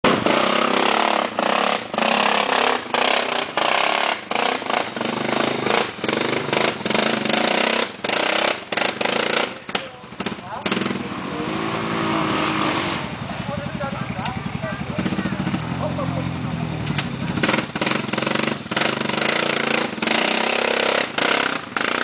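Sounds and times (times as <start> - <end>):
quad bike engine revving: 0.0 - 22.0.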